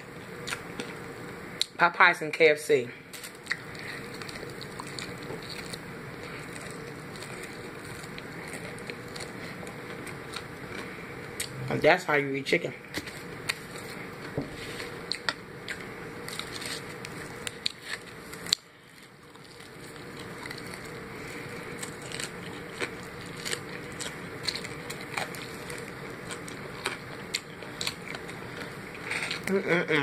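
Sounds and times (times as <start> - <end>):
chewing and crunching fried chicken: 0.0 - 1.7, 3.0 - 11.6, 12.8 - 29.6.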